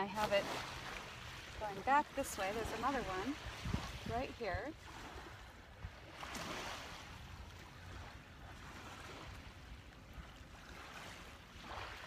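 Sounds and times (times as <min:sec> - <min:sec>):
low rumble of waves: 0:00.0 - 0:12.0.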